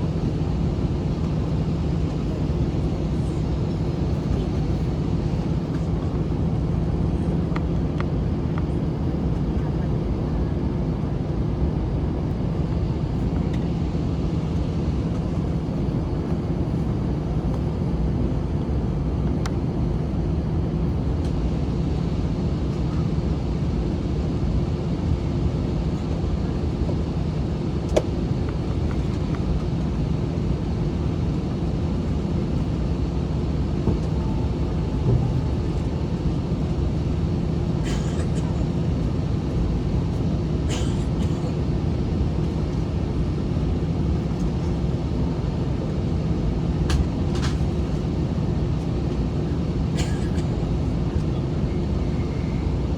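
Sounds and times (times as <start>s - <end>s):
jet engines humming: 0.0s - 52.9s.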